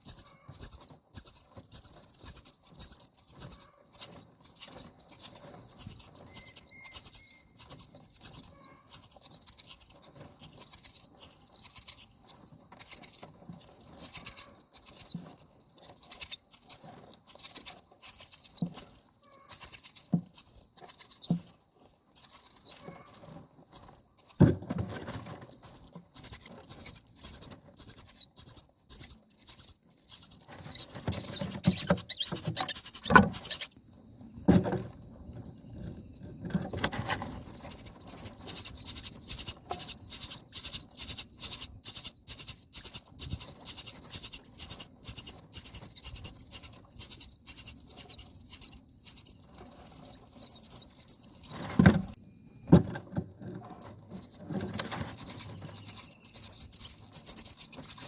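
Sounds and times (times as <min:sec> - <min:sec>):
nestlings begging chirps: 0:00.0 - 0:58.0.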